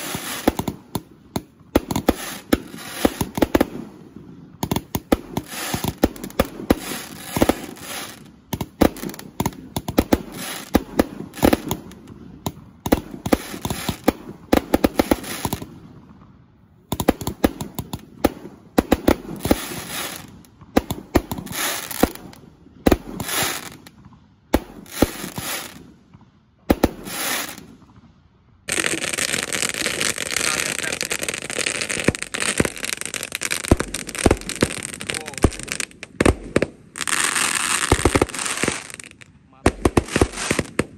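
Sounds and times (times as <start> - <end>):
loud steady firework hiss: 0.0 - 40.9
roman candles firing: 0.0 - 40.9.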